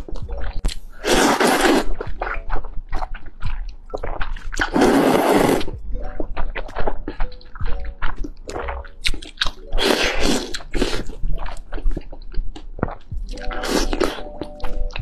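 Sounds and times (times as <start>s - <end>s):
noodle slurp: 0.9s - 7.6s, 8.5s - 12.2s, 12.8s - 14.6s
wet chewing and lip smacks: 1.8s - 4.8s, 5.6s - 15.0s.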